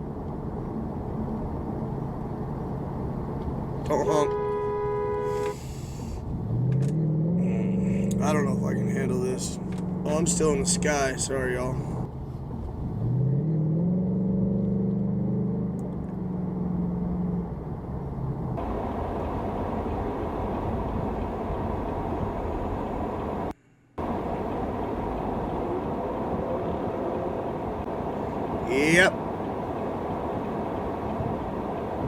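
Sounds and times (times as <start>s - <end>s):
car engine accelerating: 0.0s - 32.0s
road and traffic noise: 0.0s - 32.0s.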